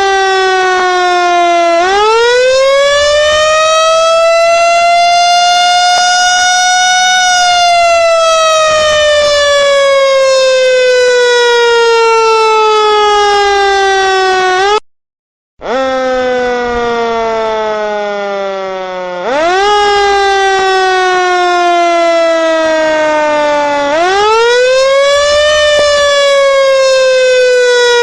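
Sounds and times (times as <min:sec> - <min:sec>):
siren wailing: 0:00.0 - 0:14.8, 0:15.6 - 0:28.0.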